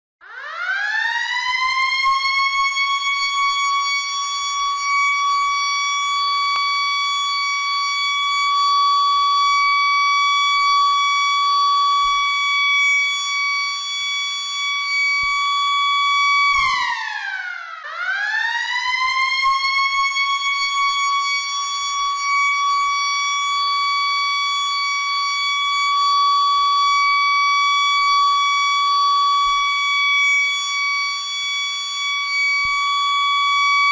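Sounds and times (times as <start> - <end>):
siren wailing: 0.3 - 33.9.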